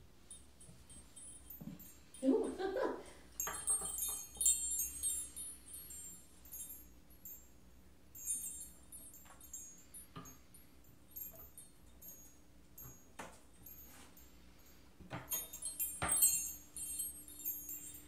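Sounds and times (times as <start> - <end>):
metal wind chime tinkling: 0.2 - 18.0.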